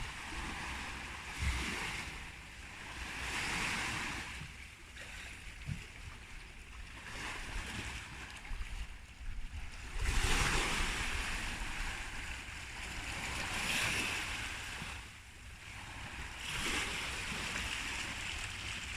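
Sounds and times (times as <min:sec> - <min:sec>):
wind rumbling on microphone: 0:00.0 - 0:04.6, 0:05.6 - 0:18.9
sea water rushing: 0:00.0 - 0:18.9.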